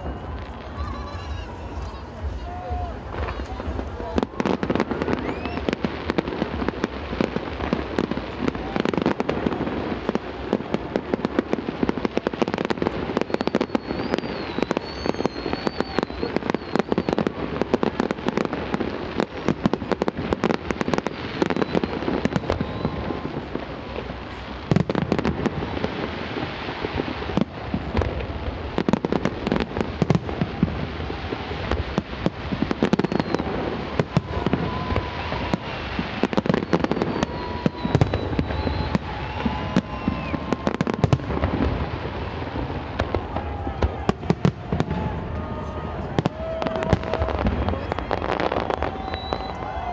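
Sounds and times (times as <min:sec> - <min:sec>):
faint firework whistles: 0:00.0 - 0:49.9
fireworks bangs and crackles: 0:00.0 - 0:49.9.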